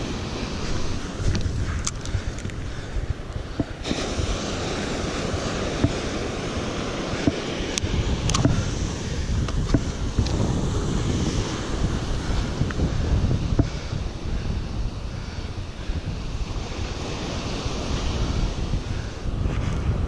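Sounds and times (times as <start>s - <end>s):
breaking surf: 0.0s - 20.0s
wind buffeting microphone: 0.0s - 20.0s.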